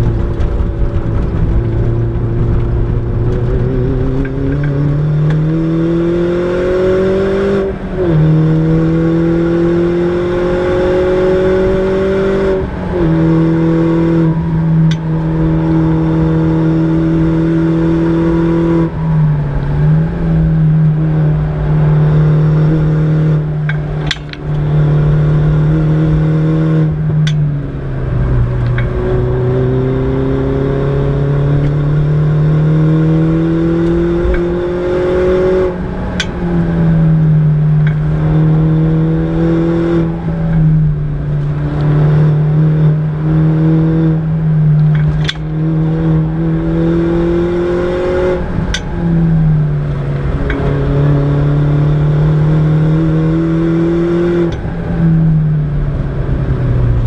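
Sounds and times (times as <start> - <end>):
car engine accelerating: 0.0 - 57.0
road and tyre noise: 0.0 - 57.0.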